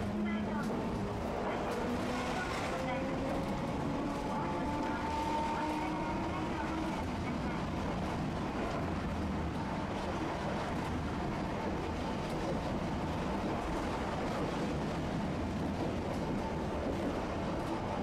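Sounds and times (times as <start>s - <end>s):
streetcar wheels rumbling: 0.0s - 18.0s.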